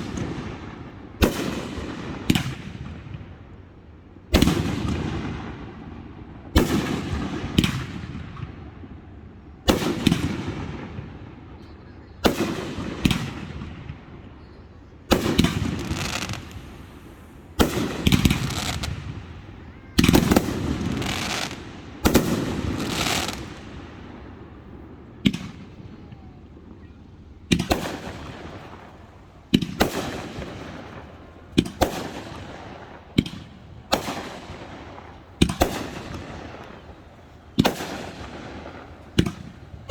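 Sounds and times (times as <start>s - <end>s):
fireworks booming and crackling: 0.0s - 3.6s, 4.3s - 11.6s, 12.2s - 14.4s, 15.1s - 39.9s.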